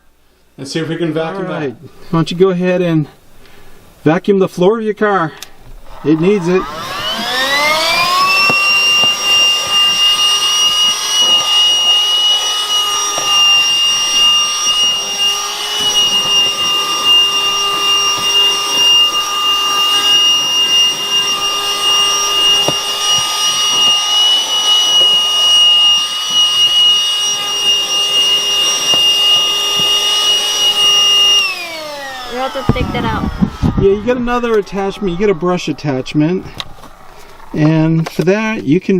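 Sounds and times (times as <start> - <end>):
handheld vacuum cleaner whine: 5.7 - 38.9.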